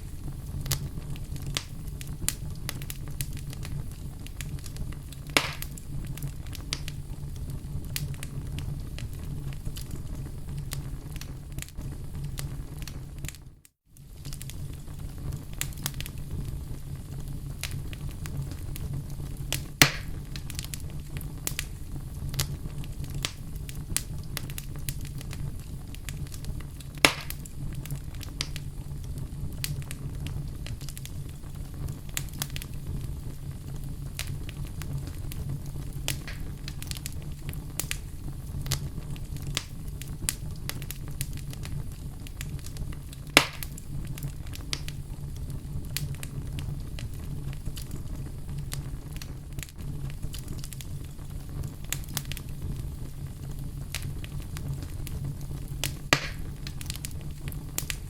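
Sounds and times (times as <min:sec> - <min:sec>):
loud fire pops: 0:00.0 - 0:58.0
wood fire crackling: 0:00.0 - 0:58.0.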